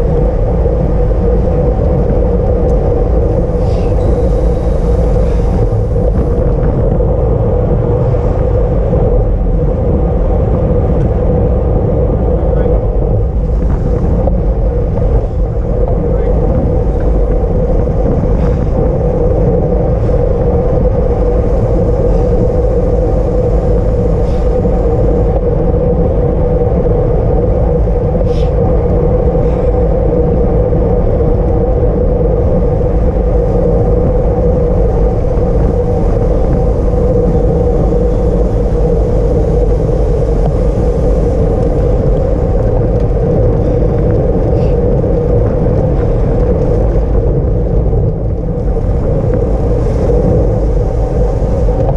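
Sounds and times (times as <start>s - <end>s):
rush of wind and road noise: 0.0s - 51.9s.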